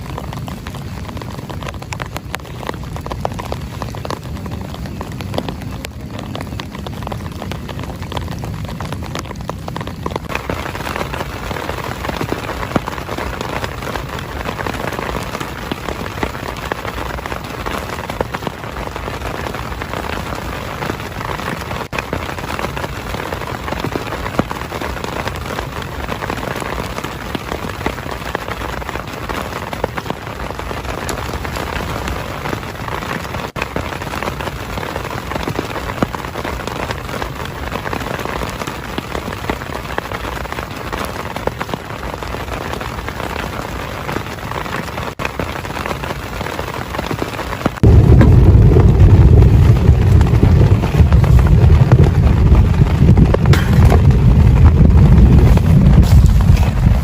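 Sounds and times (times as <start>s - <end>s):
heavy rain: 0.0s - 57.0s
raindrops ticking on surface: 0.0s - 57.0s.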